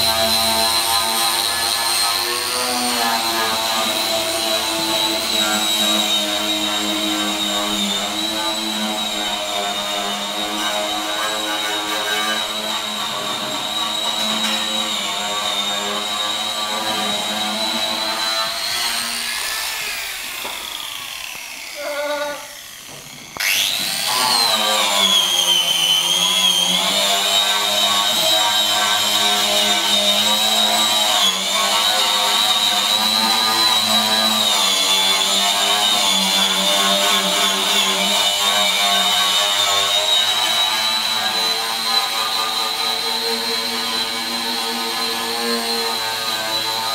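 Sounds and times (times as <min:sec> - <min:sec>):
power grinder whining: 0:00.0 - 0:46.9.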